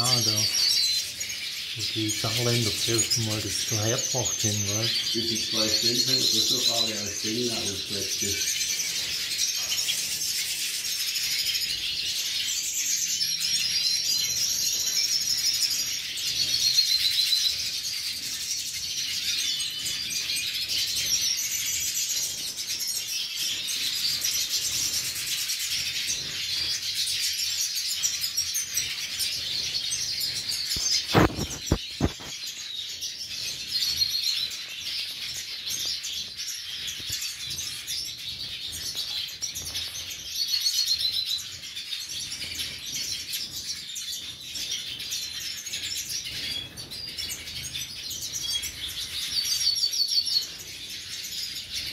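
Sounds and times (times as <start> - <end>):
finches twittering and singing: 0.0 - 51.9.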